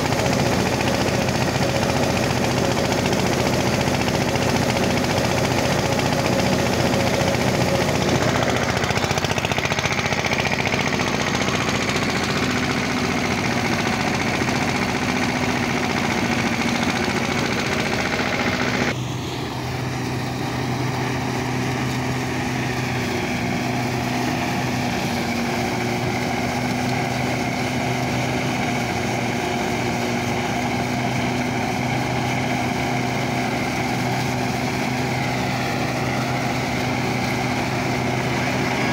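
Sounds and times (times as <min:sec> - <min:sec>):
diesel tractor engine running: 0:00.0 - 0:38.9
thresher humming: 0:00.0 - 0:38.9.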